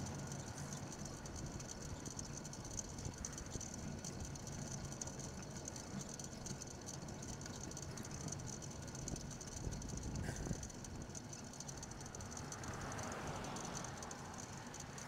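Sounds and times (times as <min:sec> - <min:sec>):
bicycle rattling: 0:00.0 - 0:15.0
road noise: 0:00.0 - 0:15.0.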